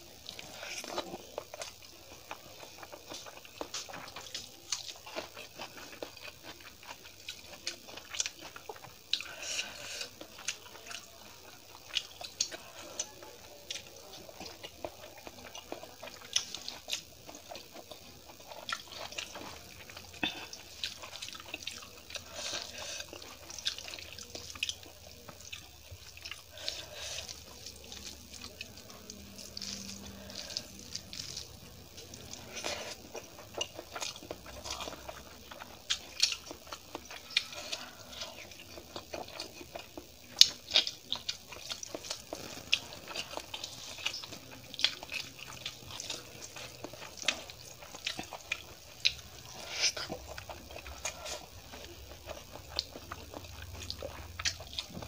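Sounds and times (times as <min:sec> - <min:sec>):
chewing and smacking: 0:00.0 - 0:55.0.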